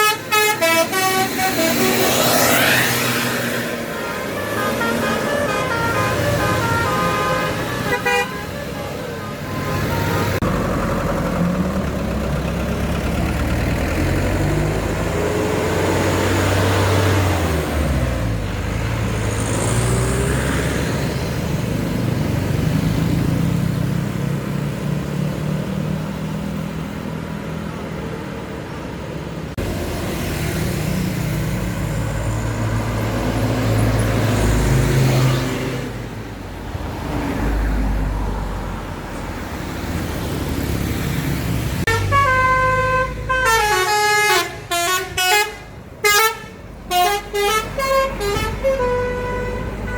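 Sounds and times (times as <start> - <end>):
vehicle engines passing: 0.0 - 49.9.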